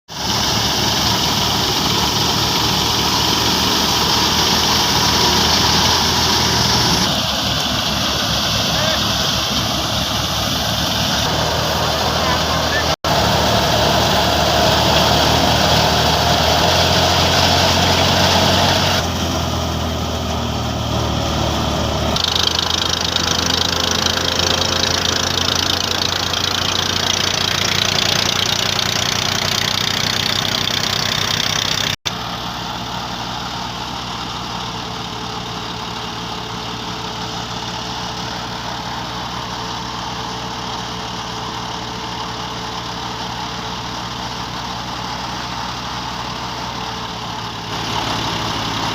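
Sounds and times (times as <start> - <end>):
tractor engine running: 0.1 - 48.9.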